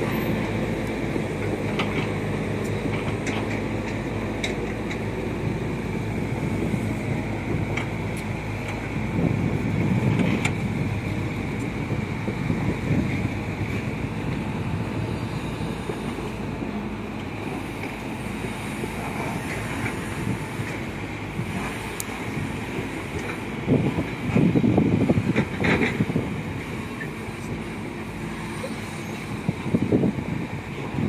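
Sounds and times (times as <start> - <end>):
diesel engine rumble: 0.0 - 31.0.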